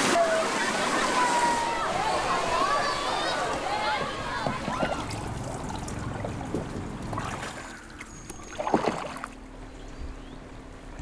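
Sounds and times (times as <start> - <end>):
running water: 0.0 - 9.6
canoe paddles splashing: 0.0 - 9.7.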